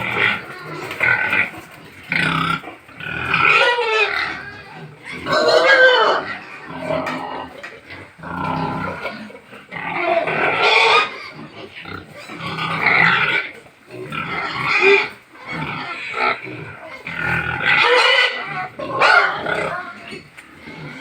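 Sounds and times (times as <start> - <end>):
pigs grunting and squealing: 0.0 - 21.0.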